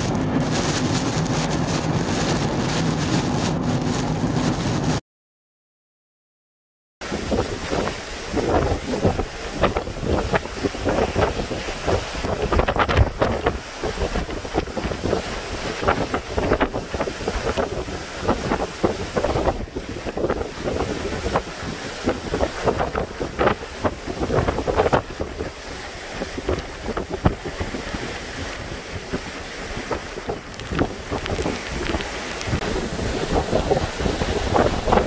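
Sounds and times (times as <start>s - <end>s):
driving rain: 0.0s - 5.0s, 7.0s - 35.0s
hurricane wind roar: 0.0s - 5.0s, 7.0s - 35.0s
wind buffeting microphone: 0.0s - 5.0s, 7.0s - 35.0s.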